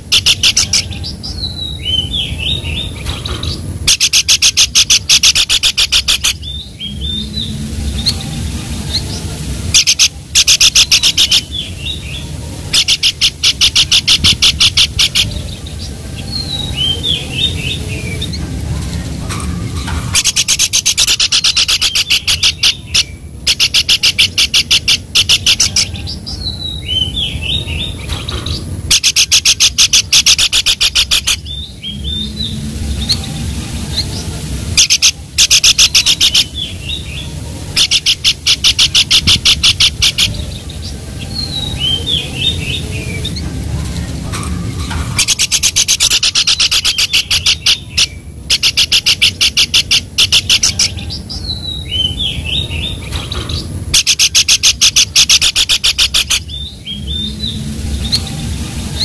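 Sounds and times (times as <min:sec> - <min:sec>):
bird rattling trills: 0:00.0 - 0:08.2, 0:08.9 - 0:26.0, 0:26.7 - 0:51.0, 0:51.8 - 0:58.4.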